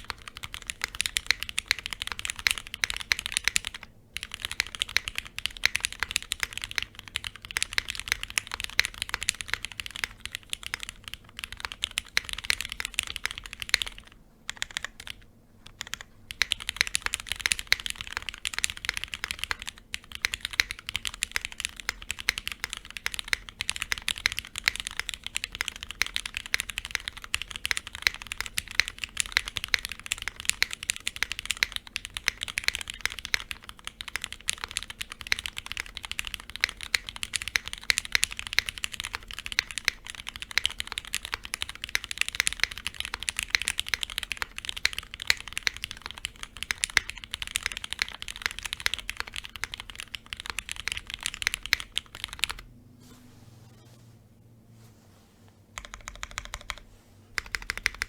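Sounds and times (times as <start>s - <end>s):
mechanical keyboard typing: 0.0s - 52.7s, 55.8s - 58.0s.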